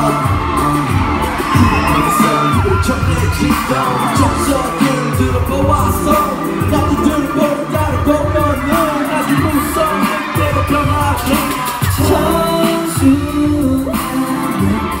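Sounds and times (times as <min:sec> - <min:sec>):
singing over pop track: 0:00.0 - 0:15.0.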